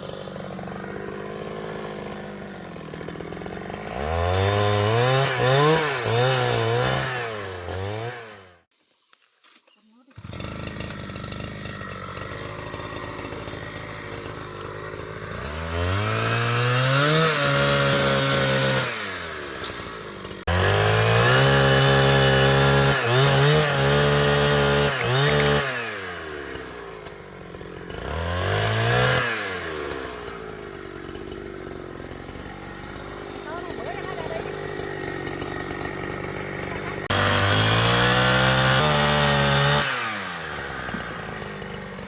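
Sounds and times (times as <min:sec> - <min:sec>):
chainsaw idling and revving: 0:00.0 - 0:08.7, 0:10.1 - 0:42.0.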